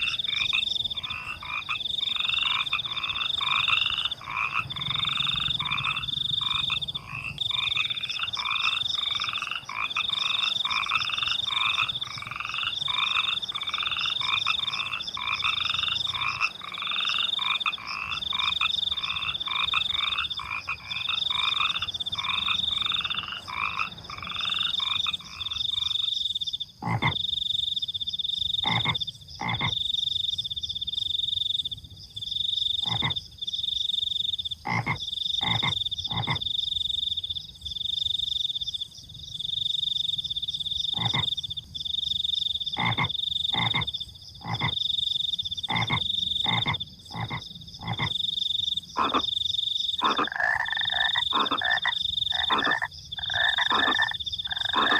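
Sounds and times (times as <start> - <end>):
crickets trilling: 0.0 - 54.9
frogs croaking: 0.0 - 54.9.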